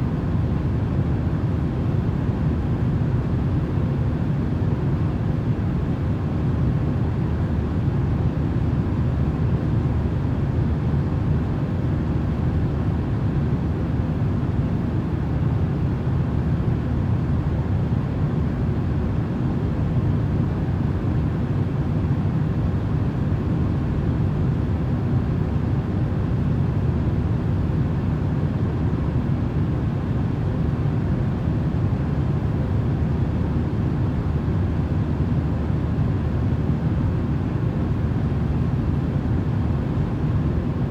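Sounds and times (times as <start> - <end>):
faint hum: 0.0 - 40.9.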